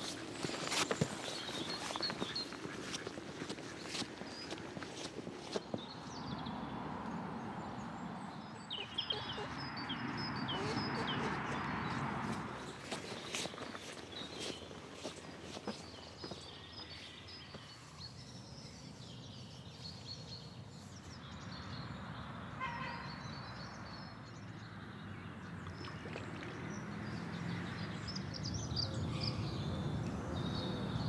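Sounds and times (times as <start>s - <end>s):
birds calling: 0.0s - 24.6s, 25.3s - 31.0s.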